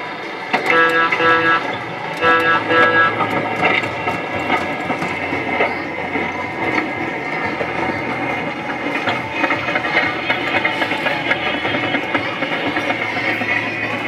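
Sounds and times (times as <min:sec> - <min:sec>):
dense mechanical clatter: 0:00.4 - 0:14.0.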